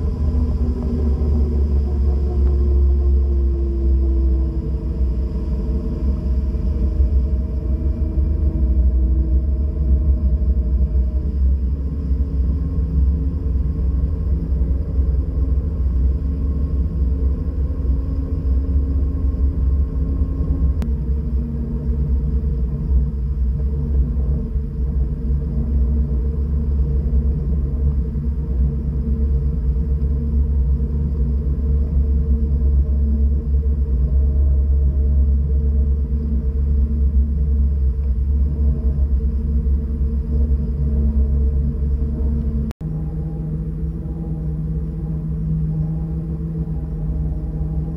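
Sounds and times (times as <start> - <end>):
boat engine droning: 0.0 - 47.9.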